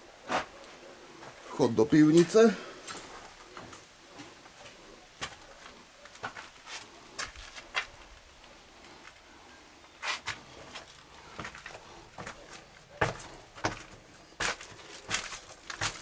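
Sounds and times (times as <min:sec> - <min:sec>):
faint footsteps and scuffs: 0:00.2 - 0:02.2, 0:02.8 - 0:09.2, 0:09.9 - 0:16.0.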